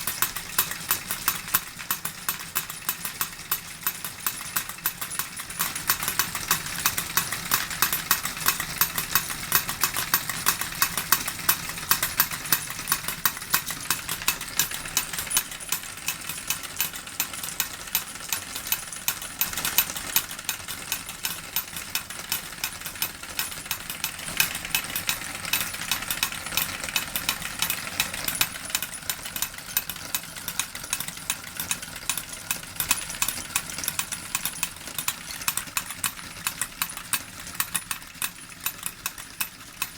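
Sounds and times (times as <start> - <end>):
miniature hammers knocking: 0.0 - 39.9
model steam engine clattering: 0.0 - 39.9.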